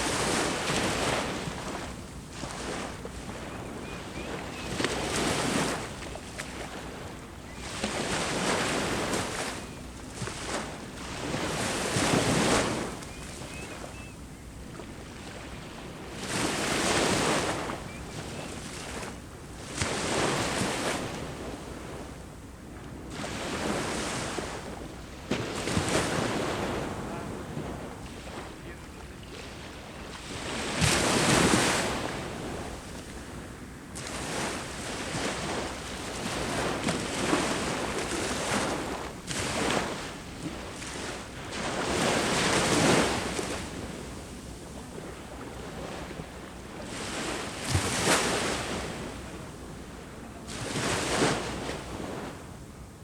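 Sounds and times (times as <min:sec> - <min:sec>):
sea waves breaking on shore: 0:00.0 - 0:52.7.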